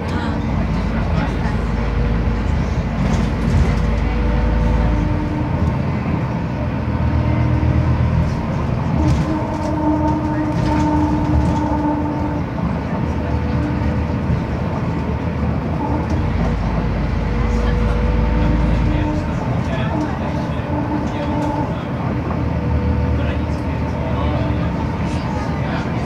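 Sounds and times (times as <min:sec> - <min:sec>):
bus engine running: 0:00.0 - 0:26.0
road and tyre noise: 0:00.0 - 0:26.0.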